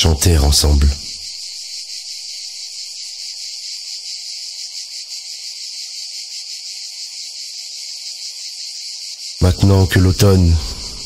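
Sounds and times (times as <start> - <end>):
insects singing: 0.0 - 11.0.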